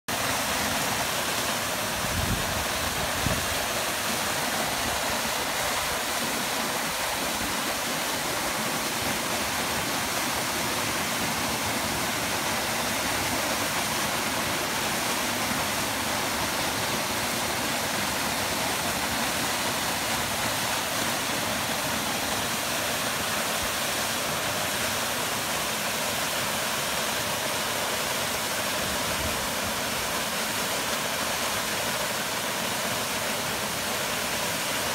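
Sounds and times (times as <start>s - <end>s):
waterfall splashing: 0.0s - 34.9s.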